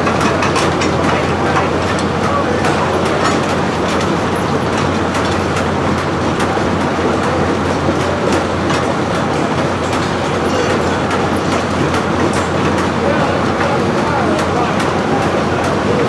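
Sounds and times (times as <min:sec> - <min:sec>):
carriage clicks and clanks: 0:00.0 - 0:16.0
sawmill machinery running: 0:00.0 - 0:16.0.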